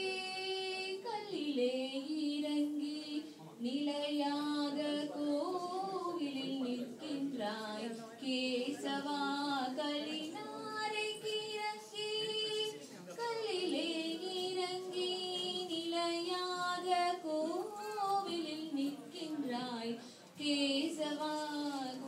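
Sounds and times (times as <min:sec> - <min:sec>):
woman and girls singing: 0:00.0 - 0:22.0.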